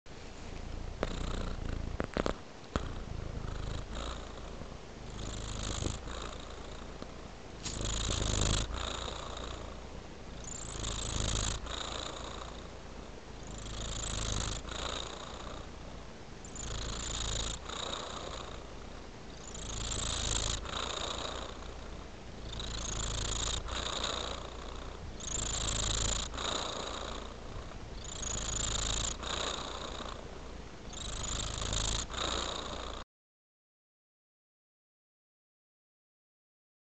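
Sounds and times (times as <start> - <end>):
cat purring: 0.2 - 33.0.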